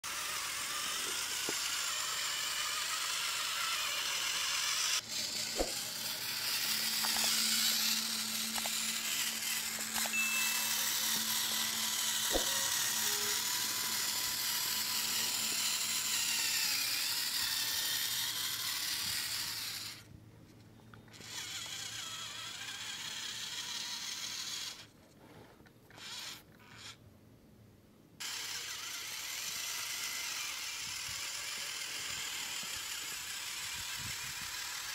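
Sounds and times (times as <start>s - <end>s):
toy tractor motor whirring: 0.0s - 27.0s, 28.2s - 34.9s.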